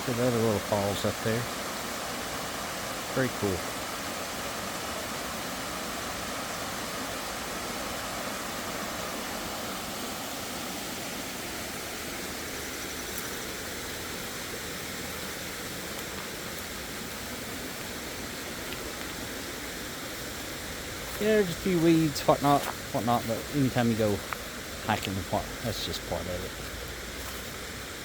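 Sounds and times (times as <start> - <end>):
small waterfall rushing: 0.0 - 28.0.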